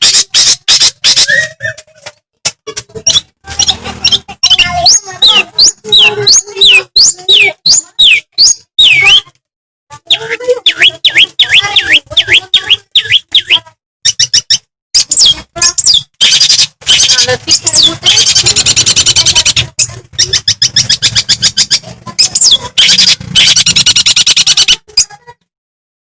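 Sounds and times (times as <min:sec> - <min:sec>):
bird singing: 0:03.0 - 0:09.3, 0:10.1 - 0:25.1.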